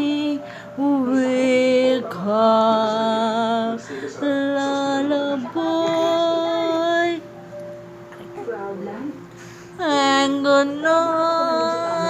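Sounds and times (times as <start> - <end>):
woman singing a lullaby: 0.0 - 7.4, 8.1 - 12.0.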